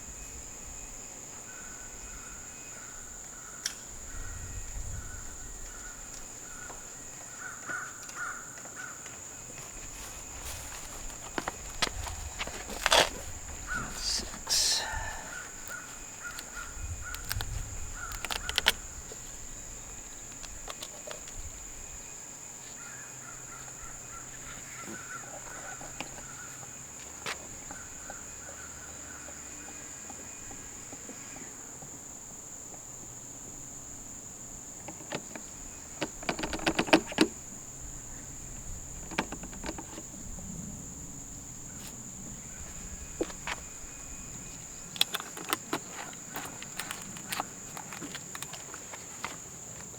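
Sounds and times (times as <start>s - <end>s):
high insect drone: 0.0s - 49.9s.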